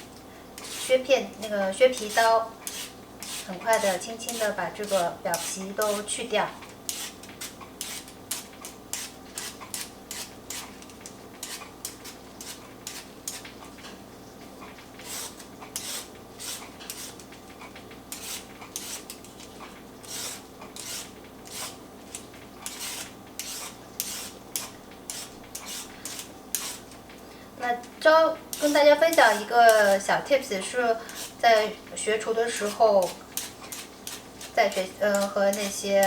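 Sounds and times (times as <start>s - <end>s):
vegetable peeler scraping: 0.6s - 6.2s, 6.9s - 13.5s, 15.0s - 17.2s, 18.1s - 27.0s, 28.5s - 36.0s.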